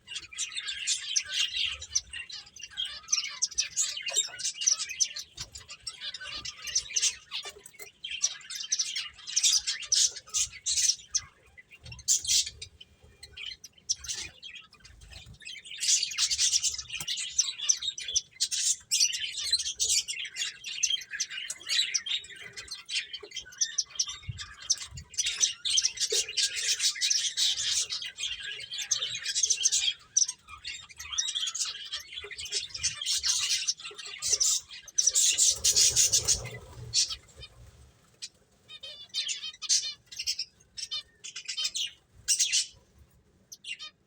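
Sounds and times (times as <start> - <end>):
finches chirping: 0.0 - 42.9.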